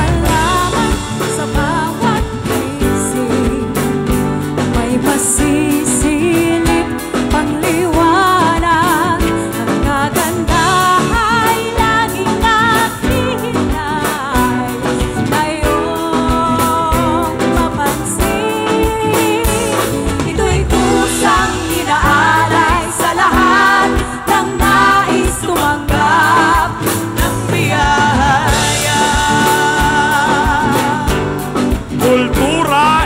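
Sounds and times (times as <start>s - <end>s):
acoustic guitar: 0.0s - 33.0s
drum kit beat: 0.0s - 33.0s
keyboard: 0.0s - 33.0s
woman singing: 0.0s - 33.0s.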